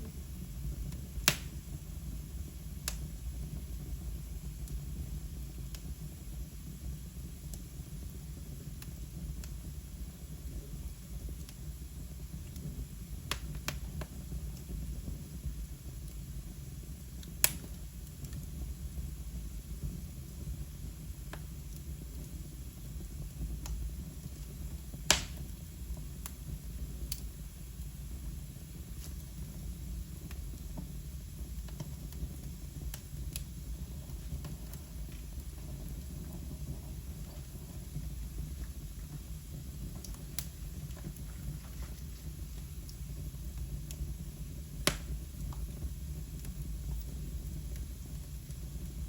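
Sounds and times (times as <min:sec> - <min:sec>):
low steady rumble: 0:00.0 - 0:49.0
wood fire crackling: 0:00.0 - 0:49.0
sharp pops of fire: 0:00.1 - 0:49.0.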